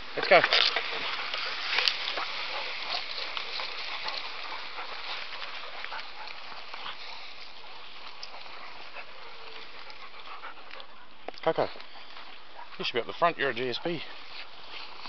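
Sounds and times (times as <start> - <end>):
undergrowth rustling and crackling: 0.0 - 15.0.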